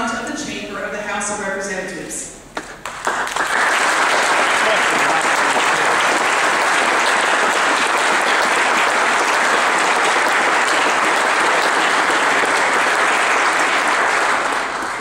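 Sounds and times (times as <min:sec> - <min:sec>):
crowd applauding: 0:02.8 - 0:15.0.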